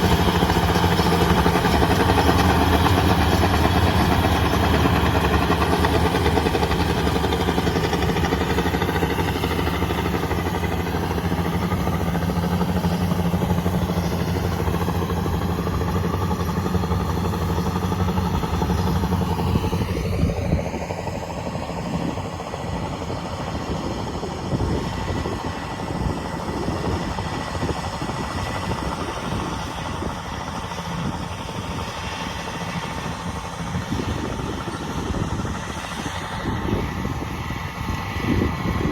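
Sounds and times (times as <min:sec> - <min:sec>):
combine harvester diesel engine running: 0:00.0 - 0:38.9.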